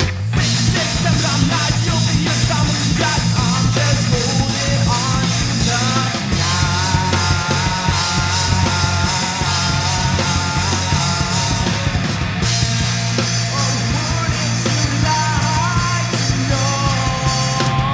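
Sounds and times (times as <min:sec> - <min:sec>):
hard rock band playing: 0:00.0 - 0:17.9.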